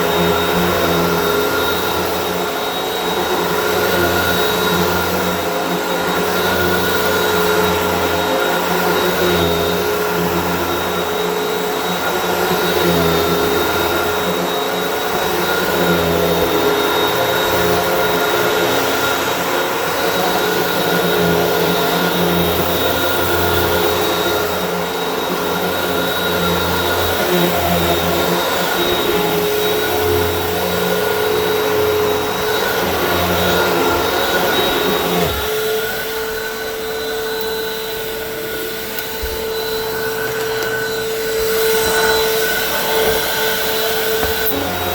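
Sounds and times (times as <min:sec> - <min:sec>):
vacuum cleaner motor whine: 0:00.0 - 0:44.9.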